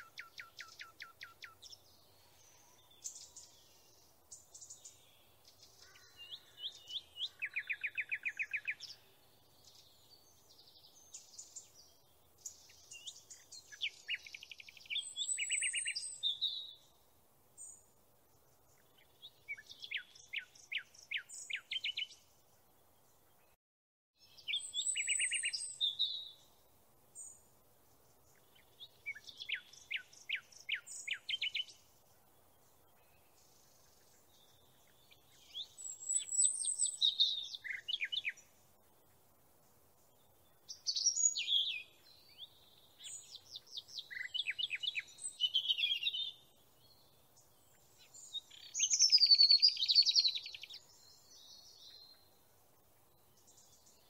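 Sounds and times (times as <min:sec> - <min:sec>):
songbird chirps and trills: 0:00.0 - 0:23.6, 0:24.2 - 0:54.0.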